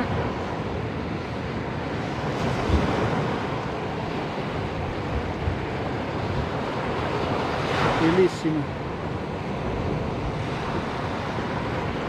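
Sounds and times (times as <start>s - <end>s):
sea waves breaking on beach: 0.0s - 12.0s
wind blowing on microphone: 0.0s - 12.0s.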